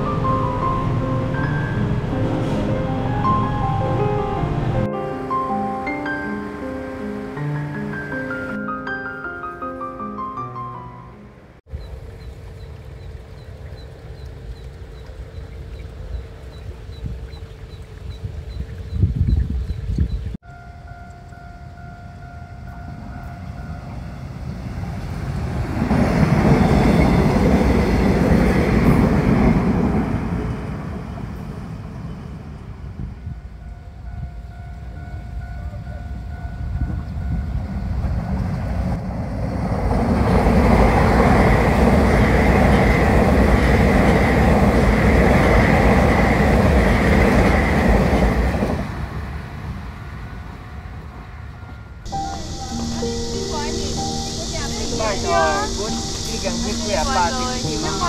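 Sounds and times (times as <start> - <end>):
train running on tracks: 0.0 - 58.0.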